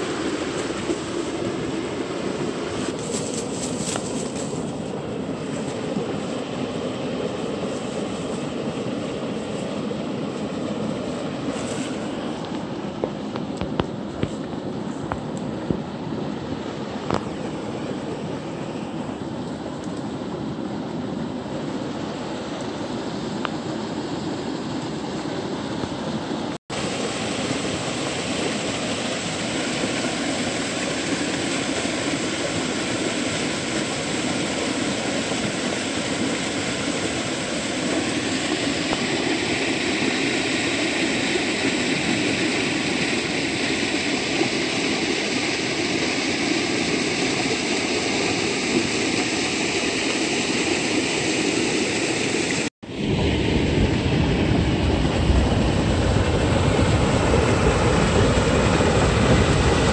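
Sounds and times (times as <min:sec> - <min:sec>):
water rushing through channel: 0:00.0 - 0:59.9.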